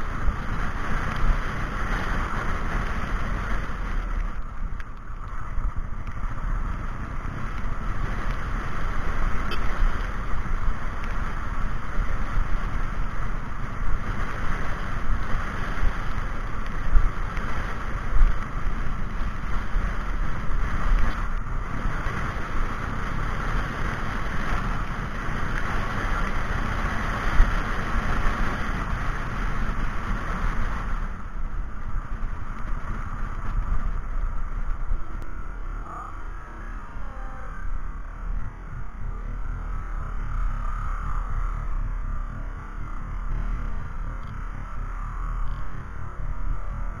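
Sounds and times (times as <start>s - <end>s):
engine rumble: 0.0s - 47.0s
road noise: 0.0s - 47.0s
wind noise: 0.0s - 47.0s.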